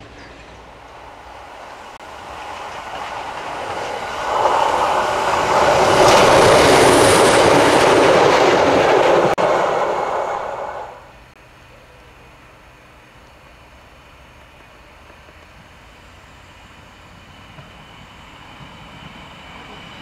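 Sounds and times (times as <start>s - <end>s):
diesel railcar wheels rattling: 0.0s - 11.3s, 12.4s - 20.0s.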